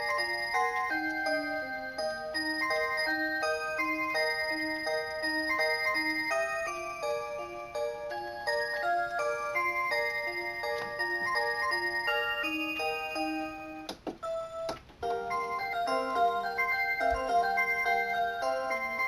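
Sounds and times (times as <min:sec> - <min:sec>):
electronic clock melody: 0:00.0 - 0:19.0.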